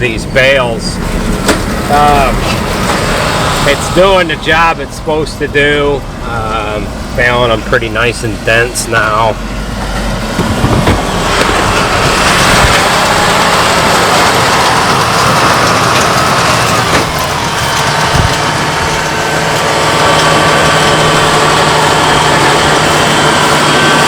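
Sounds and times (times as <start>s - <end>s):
tractor and baler droning: 0.0s - 24.0s.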